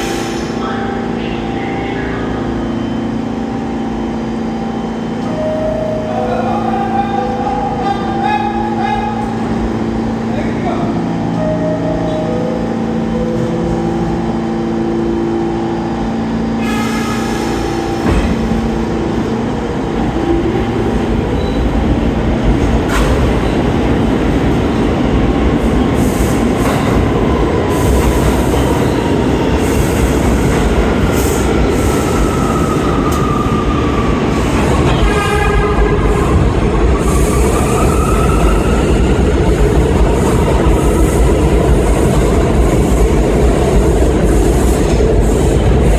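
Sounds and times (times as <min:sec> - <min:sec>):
subway train hum: 0:00.0 - 0:45.9
train whine: 0:00.0 - 0:45.9
train wheels rumbling on rail: 0:06.5 - 0:45.9.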